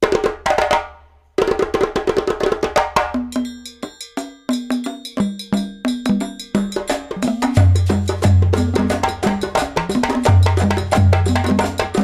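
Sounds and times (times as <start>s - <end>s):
bouncy wood block percussion tune: 0.0s - 12.0s.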